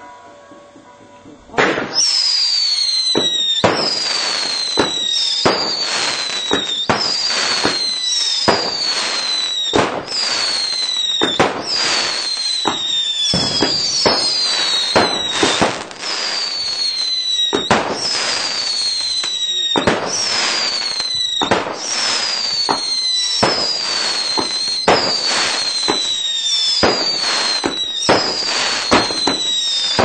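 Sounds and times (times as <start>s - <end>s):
firework bangs: 1.5s - 30.0s
falling firework whistle: 1.7s - 30.0s.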